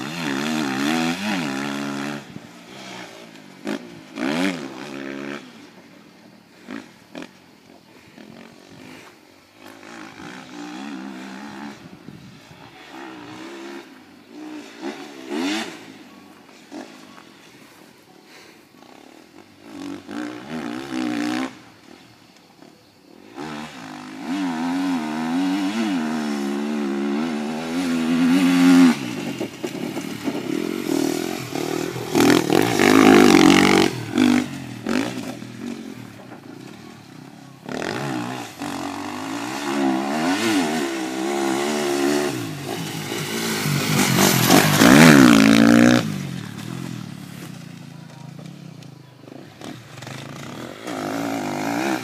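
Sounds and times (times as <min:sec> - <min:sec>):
motocross bike engine revving: 0:00.0 - 0:05.9, 0:06.5 - 0:18.0, 0:18.8 - 0:22.1, 0:23.1 - 0:52.0.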